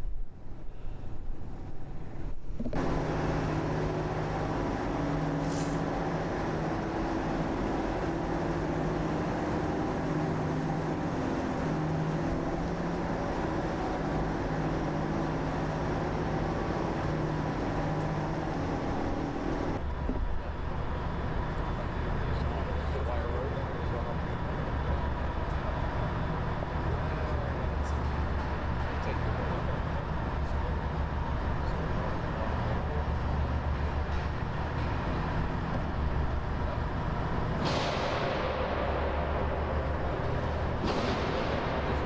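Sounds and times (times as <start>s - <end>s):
vehicle engine humming: 0.0s - 42.0s.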